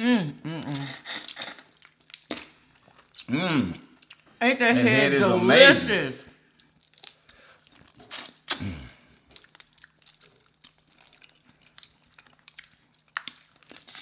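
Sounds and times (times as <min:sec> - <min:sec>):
chewing: 0:00.6 - 0:04.4, 0:06.3 - 0:14.0.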